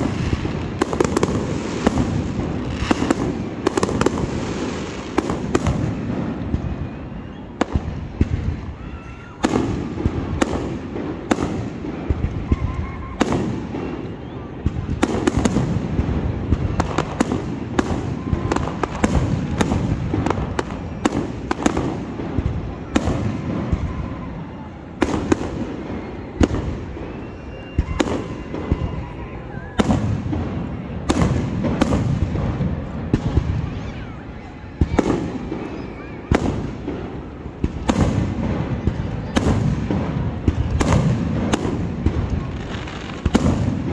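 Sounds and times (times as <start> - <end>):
rumble and crackle of fireworks: 0.0 - 43.9
small fireworks pops: 0.0 - 43.9.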